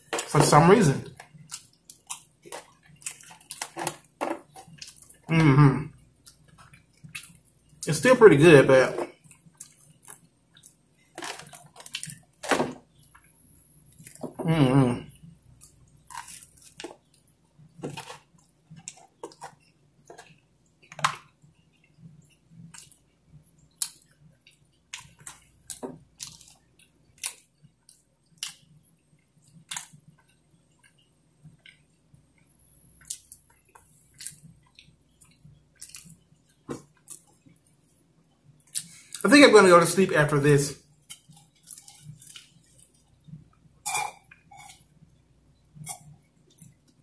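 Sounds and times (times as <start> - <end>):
man chewing: 1.1 - 7.9, 9.1 - 12.4, 13.9 - 32.4, 33.0 - 39.2, 40.9 - 47.0.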